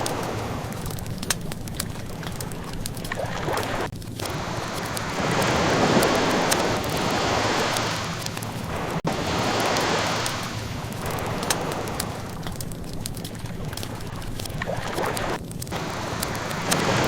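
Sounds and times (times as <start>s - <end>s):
ocean waves washing: 0.0s - 17.0s
wood fire crackling: 0.0s - 17.0s.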